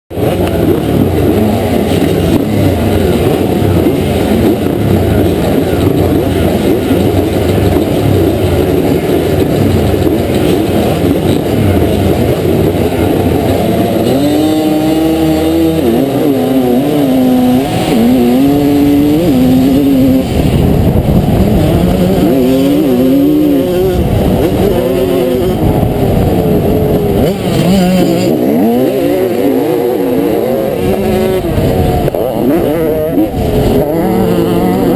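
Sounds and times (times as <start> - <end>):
motorcycle accelerating through gears: 0.1 - 34.9
two-stroke motocross bikes revving: 0.1 - 34.9.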